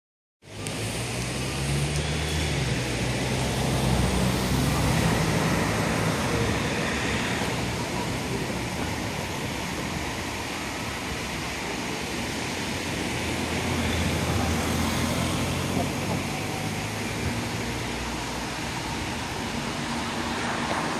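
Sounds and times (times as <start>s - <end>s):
road traffic noise: 0.4s - 20.9s
vehicle engine humming: 0.4s - 20.9s.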